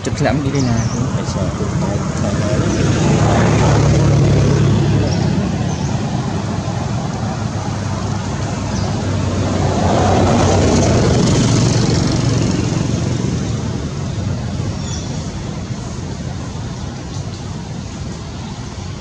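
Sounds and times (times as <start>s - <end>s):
passing vehicle: 0.0s - 19.0s.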